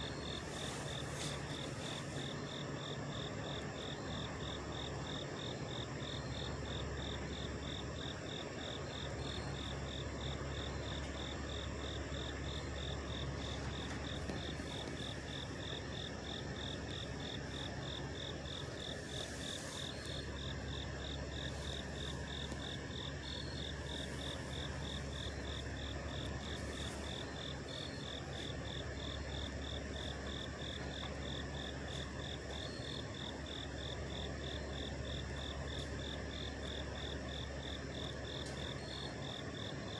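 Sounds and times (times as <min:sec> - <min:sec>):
truck engines idling: 0:00.0 - 0:35.4
insects chirping: 0:00.0 - 0:39.9.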